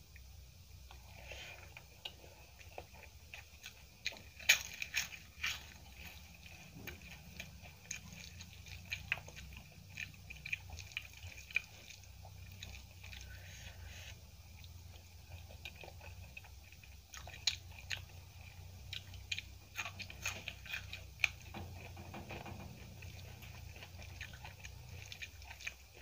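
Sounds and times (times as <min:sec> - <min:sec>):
chewing and crunching: 0:00.2 - 0:26.0
fingers mixing food on plate: 0:01.7 - 0:26.0.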